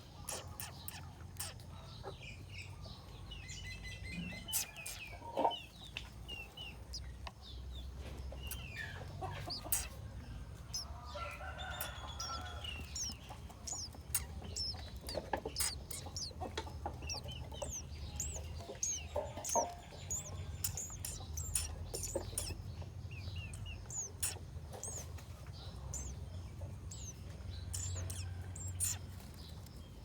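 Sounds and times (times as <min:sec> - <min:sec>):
birds chirping: 0:00.0 - 0:30.0
low clucking bird calls: 0:00.0 - 0:30.0.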